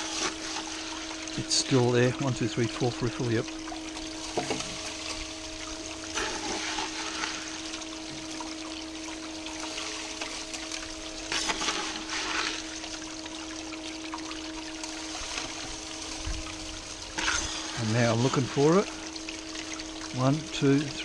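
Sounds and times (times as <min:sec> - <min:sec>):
steady hum: 0:00.0 - 0:21.0
water rushing down a sluice: 0:00.0 - 0:21.0
water splashing: 0:00.0 - 0:21.0.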